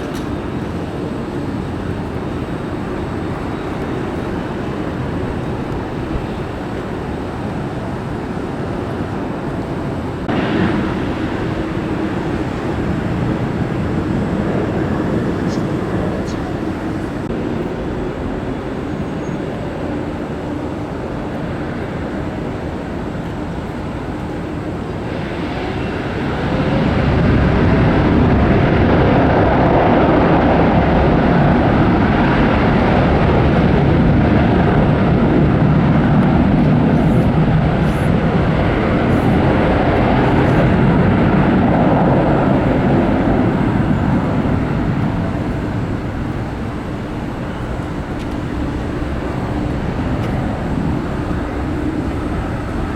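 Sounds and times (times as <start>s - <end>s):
jet airliner engine noise: 0.0s - 52.9s.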